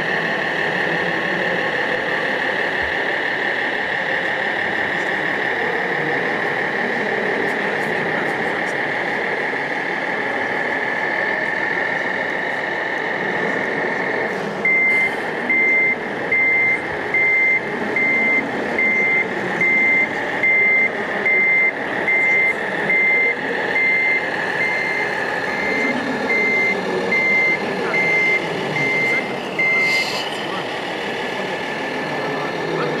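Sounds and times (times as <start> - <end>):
reversing beeper: 0.0 - 33.0
steady hum: 0.0 - 33.0.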